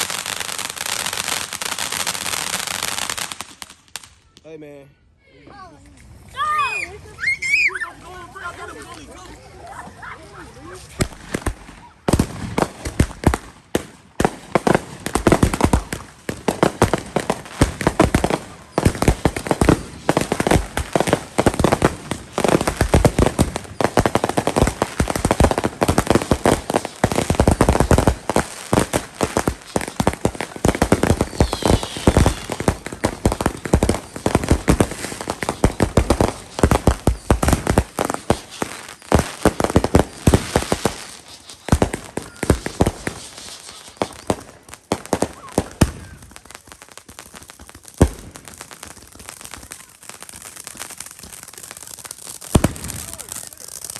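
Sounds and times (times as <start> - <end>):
firecrackers going off: 0.0 - 4.4, 6.4 - 53.9.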